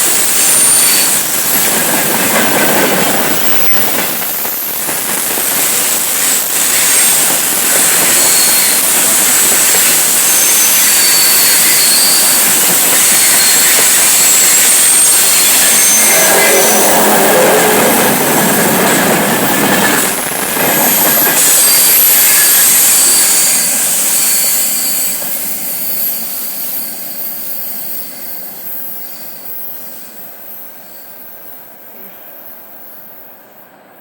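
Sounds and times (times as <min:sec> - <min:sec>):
freight train wagons rumbling: 0:00.0 - 0:30.8
high wheel squeal: 0:00.0 - 0:33.6.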